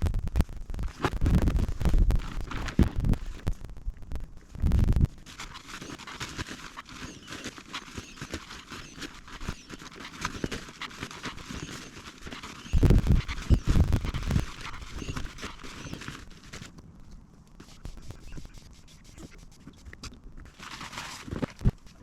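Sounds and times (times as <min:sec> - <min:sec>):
crackling: 0:00.0 - 0:22.0.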